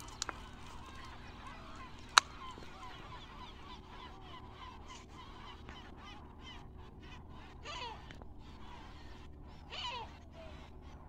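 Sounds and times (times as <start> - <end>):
many birds chattering: 0.0 - 11.0.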